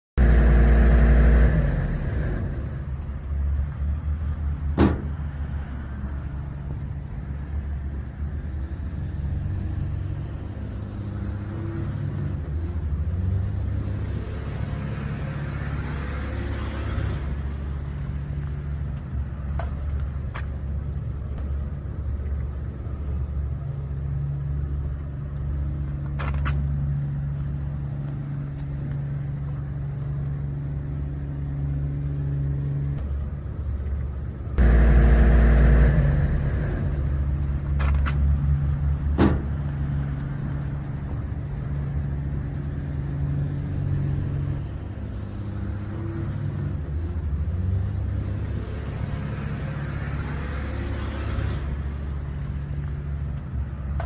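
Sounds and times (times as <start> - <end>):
diesel engine droning: 0.2 - 54.0.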